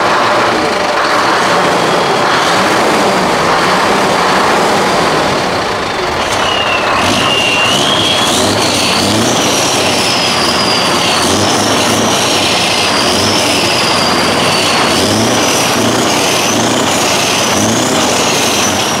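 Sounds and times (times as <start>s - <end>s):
high wavering whine: 0.0s - 19.0s
truck engine running: 0.0s - 19.0s.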